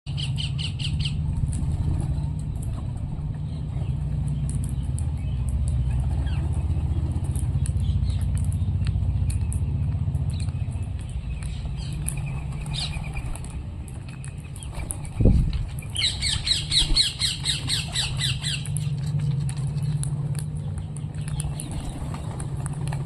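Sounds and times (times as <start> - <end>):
parrot chirps and clicks: 2.4 - 23.0.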